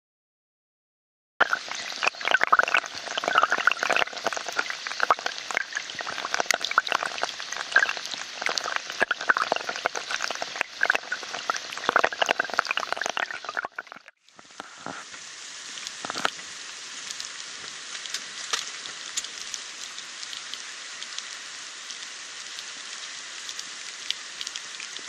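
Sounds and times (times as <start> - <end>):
water rushing along gutter: 1.4 - 25.0.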